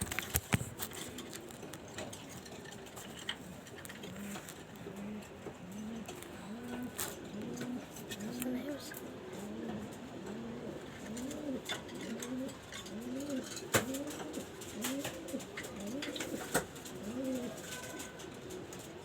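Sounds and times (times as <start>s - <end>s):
pigeon cooing: 0.8s - 19.0s.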